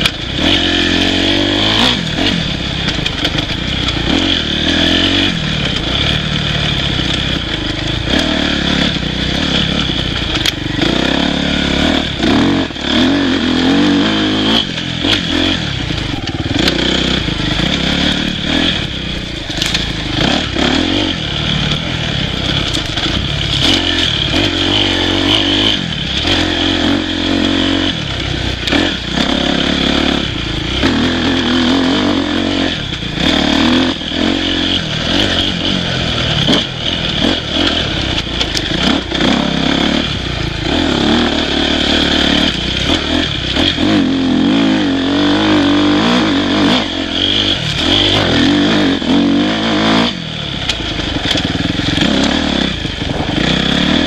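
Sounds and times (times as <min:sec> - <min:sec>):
knocks and clatter from bike: 0:00.0 - 0:11.0, 0:11.9 - 0:32.1, 0:32.7 - 0:44.8, 0:50.0 - 0:54.0
dirt bike engine revving: 0:00.0 - 0:54.0.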